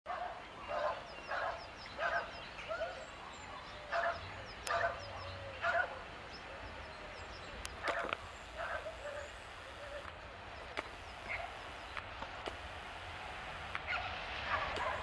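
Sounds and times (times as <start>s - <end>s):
animal calling: 0.2s - 15.0s
small birds chirping: 0.3s - 15.0s.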